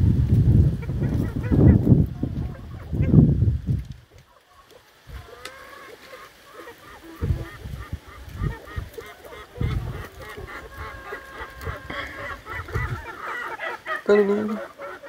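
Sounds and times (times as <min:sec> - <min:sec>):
chickens and turkeys calling: 0:00.6 - 0:15.0.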